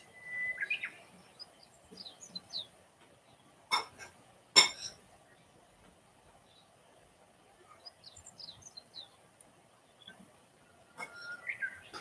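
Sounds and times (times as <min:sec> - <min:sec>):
wild birds chirping and calling: 0:00.0 - 0:12.0.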